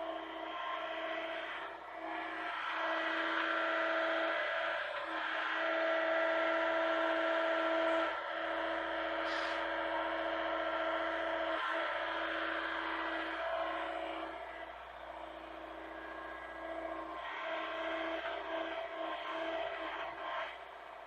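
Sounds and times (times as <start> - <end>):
excavator engine and hydraulic whine: 0.0 - 21.0.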